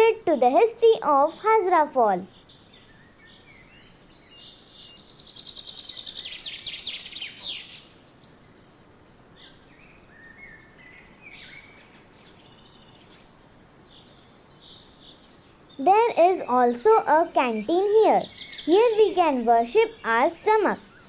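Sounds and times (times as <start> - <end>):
birds chirping: 0.0 - 8.0, 8.8 - 21.0
bird trill: 0.3 - 21.0.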